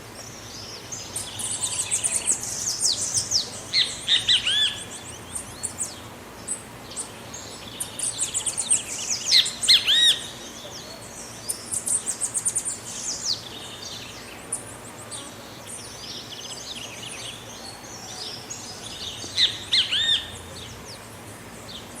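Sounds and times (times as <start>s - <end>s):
background hiss: 0.0s - 22.0s
bird chirping and calling: 0.7s - 22.0s.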